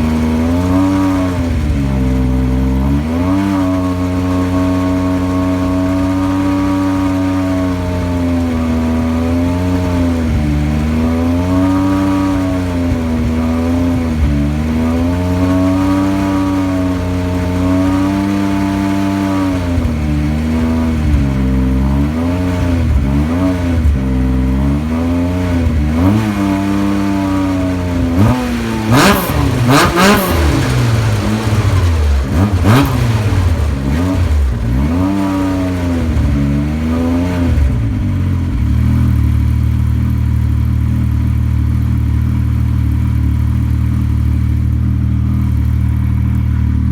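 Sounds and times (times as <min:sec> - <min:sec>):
snowmobile engine revving: 0:00.0 - 0:39.8.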